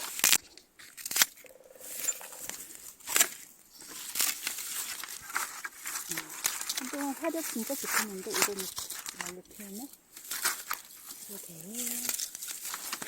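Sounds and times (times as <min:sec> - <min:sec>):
dry stalks snapping as cut: 0:00.0 - 0:01.4, 0:02.0 - 0:13.0
dry stalks crackling: 0:00.0 - 0:13.0.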